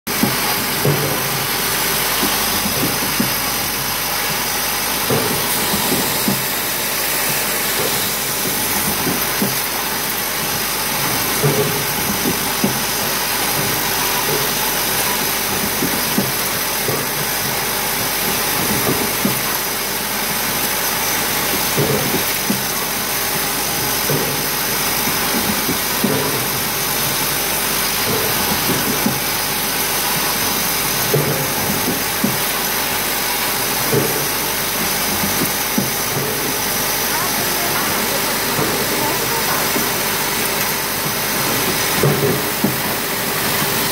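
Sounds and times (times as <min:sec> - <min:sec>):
welding machine humming: 0:00.1 - 0:43.9.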